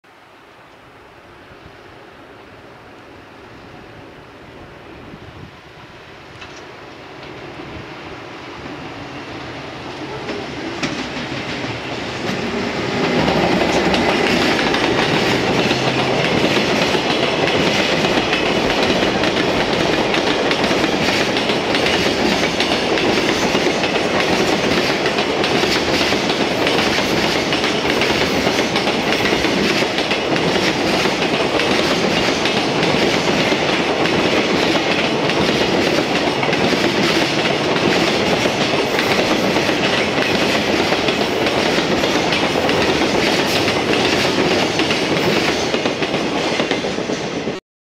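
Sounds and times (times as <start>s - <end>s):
electric locomotive approaching: 0.3s - 47.6s
freight train wheels clicking: 6.4s - 7.6s, 8.5s - 47.6s.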